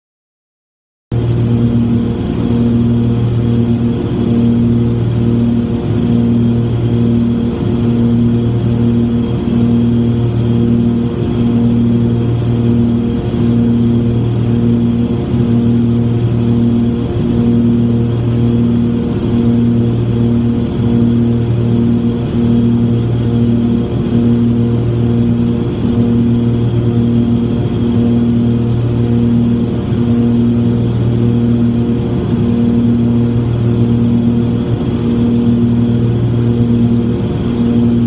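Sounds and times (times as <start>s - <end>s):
propeller engines droning: 1.1s - 38.0s.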